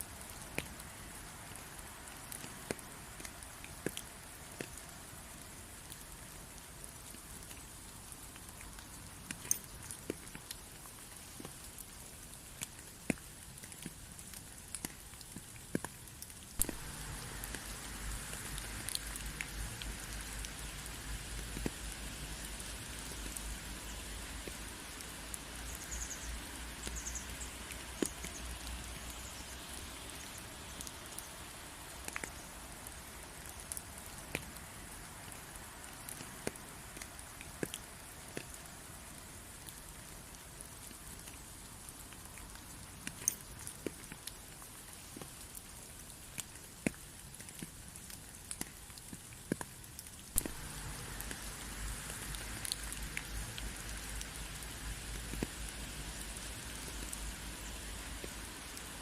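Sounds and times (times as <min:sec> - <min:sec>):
raindrops ticking on a surface: 0:00.0 - 0:59.0
steady rain falling: 0:00.0 - 0:59.0.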